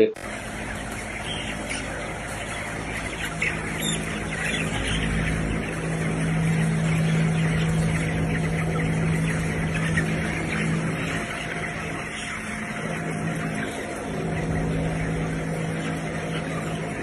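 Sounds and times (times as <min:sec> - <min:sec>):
chickens clucking and cheeping: 0:00.0 - 0:17.0
ventilation fans humming: 0:00.0 - 0:17.0.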